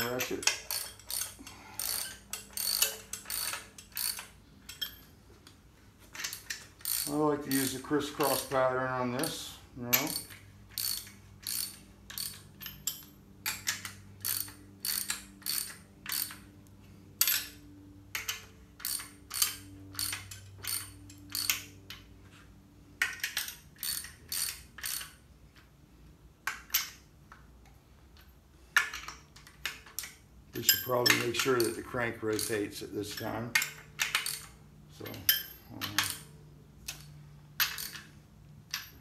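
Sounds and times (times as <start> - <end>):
hand ratchet clicking: 0.0 - 16.5, 17.2 - 22.1, 23.0 - 25.7, 28.2 - 38.1, 38.7 - 39.0.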